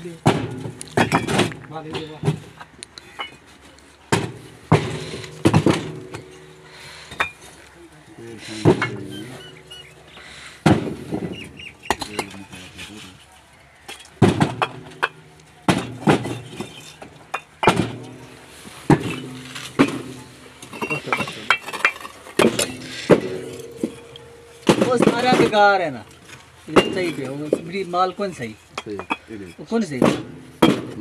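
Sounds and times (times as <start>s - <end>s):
bricks clinking together: 0.3s - 7.7s, 8.4s - 12.5s, 13.8s - 27.8s, 28.4s - 31.0s.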